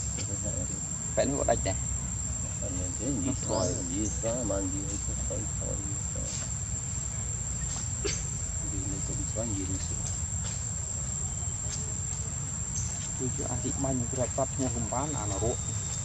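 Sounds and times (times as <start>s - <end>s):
faint voices: 0.0s - 6.5s, 8.0s - 10.1s, 11.0s - 16.0s
insects droning: 0.0s - 16.0s
low outdoor rumble: 0.0s - 16.0s.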